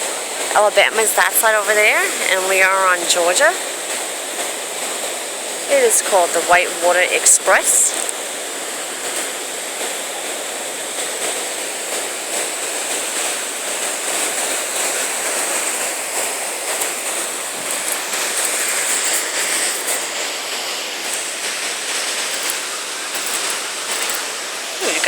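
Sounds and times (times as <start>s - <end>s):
river rapids rushing over rocks: 0.0s - 8.4s, 9.0s - 25.0s.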